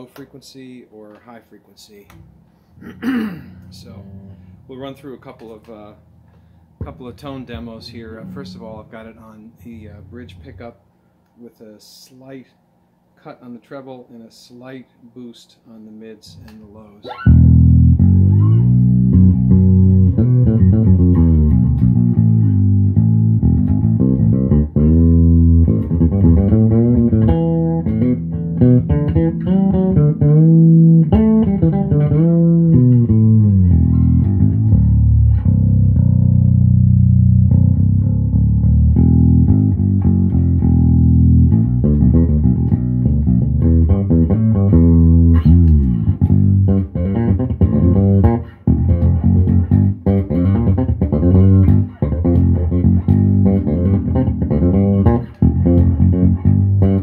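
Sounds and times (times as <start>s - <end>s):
fretless bass sliding notes: 2.1s - 11.0s, 16.3s - 57.0s.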